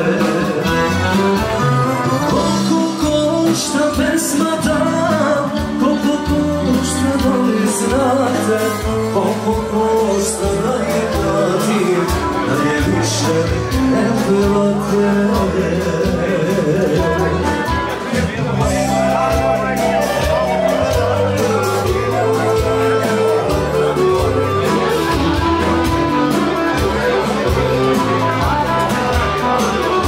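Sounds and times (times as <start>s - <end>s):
man singing into microphone: 0.0s - 25.2s
accordion: 0.0s - 30.0s
drums: 0.0s - 30.0s
electronic keyboard: 0.0s - 30.0s.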